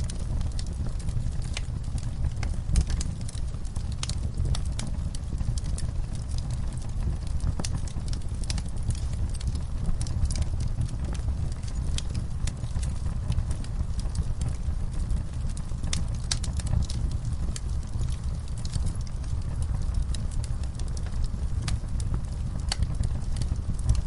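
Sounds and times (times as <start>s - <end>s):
wood fire burning in fireplace: 0.0s - 24.0s.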